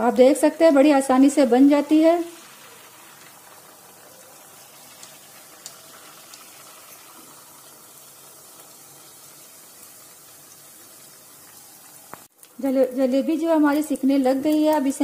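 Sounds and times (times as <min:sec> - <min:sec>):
batter sizzling in oil: 0:00.0 - 0:15.0
faint frying pops: 0:00.0 - 0:15.0.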